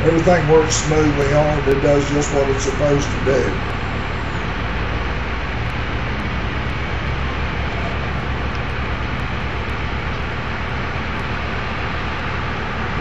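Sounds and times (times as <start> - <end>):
diesel engines running: 0.0 - 13.0.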